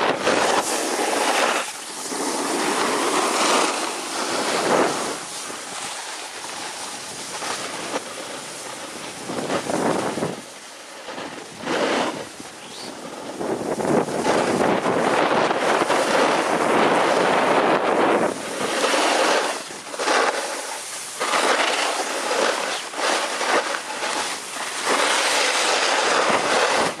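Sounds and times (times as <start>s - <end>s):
ski edges scraping snow: 0.0s - 27.0s
wind on microphone: 0.0s - 27.0s.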